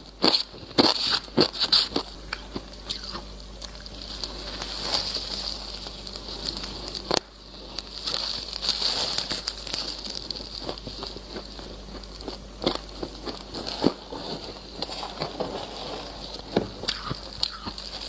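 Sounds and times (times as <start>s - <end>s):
chewing frost crunch: 0.0s - 18.0s.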